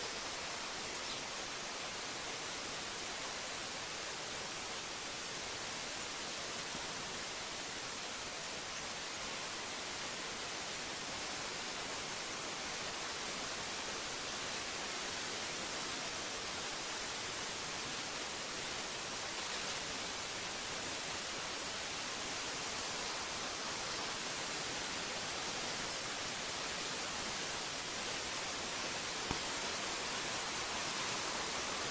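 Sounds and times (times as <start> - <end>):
static hiss: 0.0 - 31.9.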